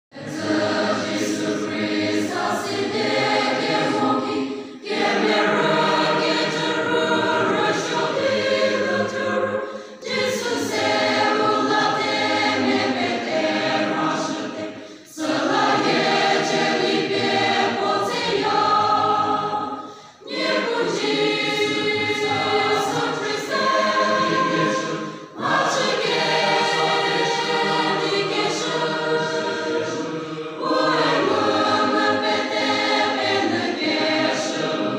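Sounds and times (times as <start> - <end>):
mixed choir singing a hymn: 0.1 - 34.9.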